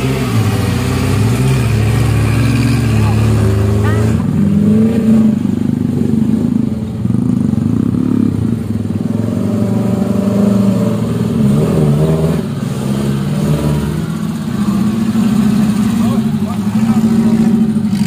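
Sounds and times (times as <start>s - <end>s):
car engine working under load: 0.0s - 18.0s.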